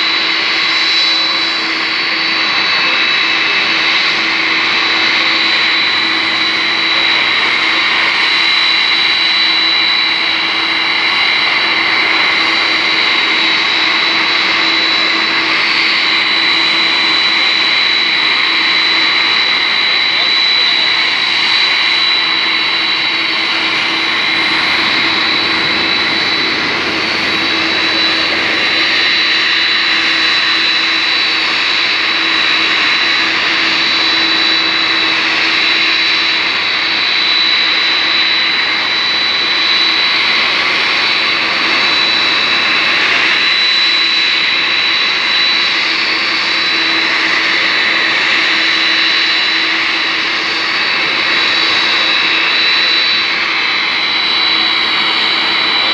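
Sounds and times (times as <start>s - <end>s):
jet turbine whine: 0.0s - 55.9s.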